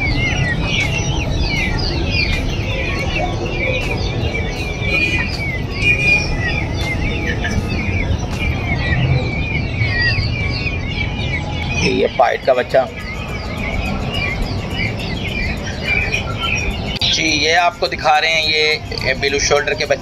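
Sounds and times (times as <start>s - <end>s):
peafowl chicks peeping: 0.0s - 20.0s.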